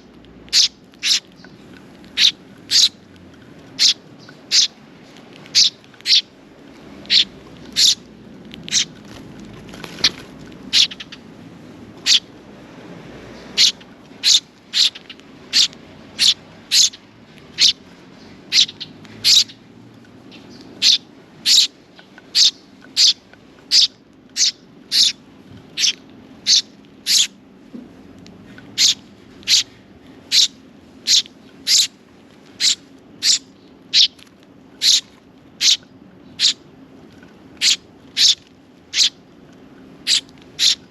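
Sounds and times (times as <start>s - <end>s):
sparrow chirping: 0.0s - 3.0s, 3.7s - 4.8s, 5.5s - 6.4s, 7.0s - 9.0s, 9.9s - 11.4s, 12.0s - 12.4s, 13.3s - 27.4s, 28.5s - 32.0s, 32.6s - 36.7s, 37.6s - 39.3s, 40.0s - 40.9s.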